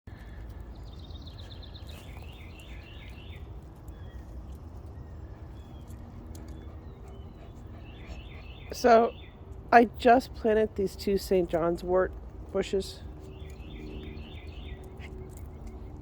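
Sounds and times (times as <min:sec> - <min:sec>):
low outdoor rumble: 0:00.1 - 0:16.0
songbird singing: 0:00.1 - 0:16.0.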